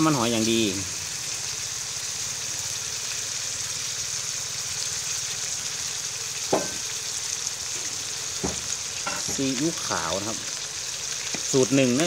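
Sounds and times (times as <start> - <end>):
fish sizzling in a wok: 0.0 - 12.0.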